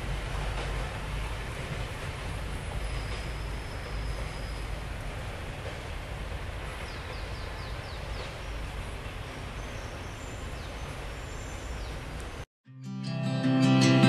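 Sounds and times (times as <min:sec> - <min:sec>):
freight train rumbling: 0:00.0 - 0:12.4.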